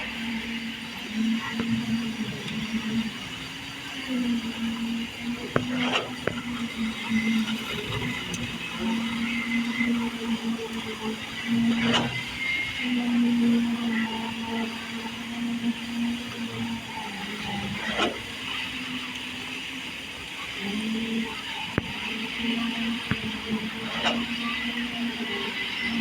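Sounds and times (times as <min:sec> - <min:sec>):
machinery engine humming: 0:00.0 - 0:26.0.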